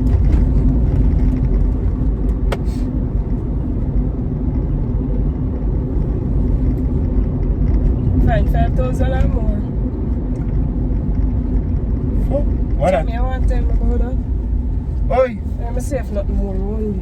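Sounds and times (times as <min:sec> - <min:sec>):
car interior engine and road rumble: 0:00.0 - 0:17.0.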